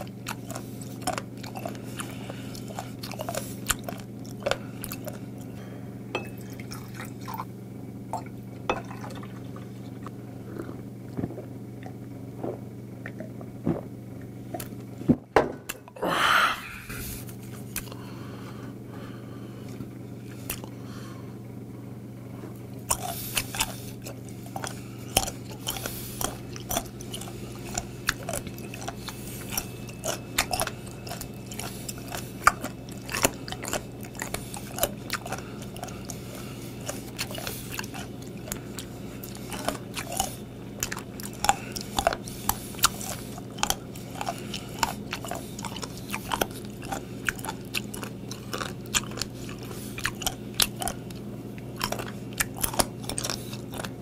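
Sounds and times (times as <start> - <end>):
crunchy chewing: 0.0 - 5.8, 9.1 - 14.9, 17.1 - 18.1, 19.6 - 21.1, 22.4 - 54.0
refrigerator motor hum: 0.0 - 54.0.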